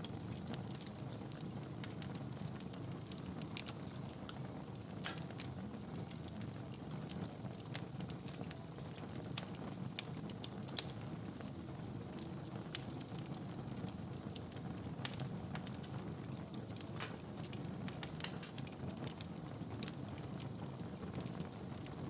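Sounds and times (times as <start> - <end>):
fire crackling in fireplace: 0.0 - 22.0.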